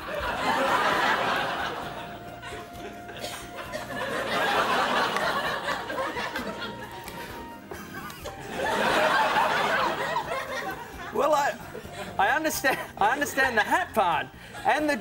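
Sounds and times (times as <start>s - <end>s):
audience laughing: 0.0s - 13.7s.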